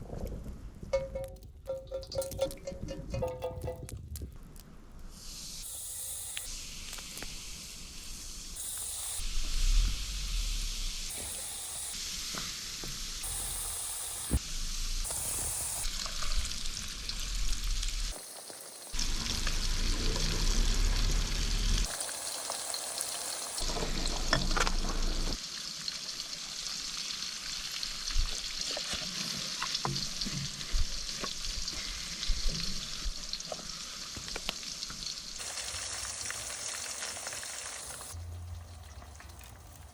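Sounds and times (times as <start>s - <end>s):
food sizzling and crackling: 1.8s - 39.9s.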